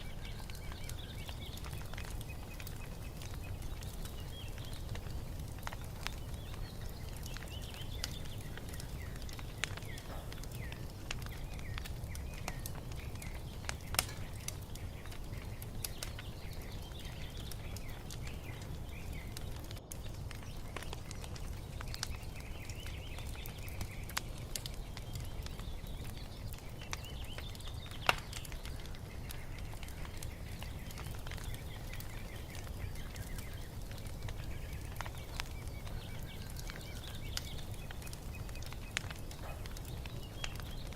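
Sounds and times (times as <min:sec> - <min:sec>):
small birds chirping: 0:00.0 - 0:40.9
wood fire crackling and popping: 0:00.0 - 0:40.9.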